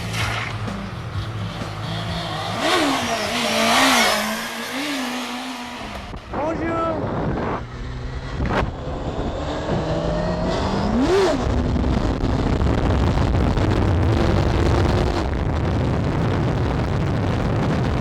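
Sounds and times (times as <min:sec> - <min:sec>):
motorcycle engine revving: 0:00.0 - 0:18.0
road noise: 0:00.0 - 0:18.0.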